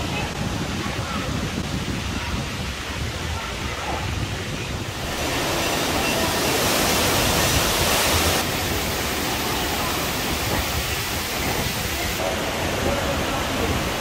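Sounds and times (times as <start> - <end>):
fountain water splashing into pool: 0.0 - 14.0.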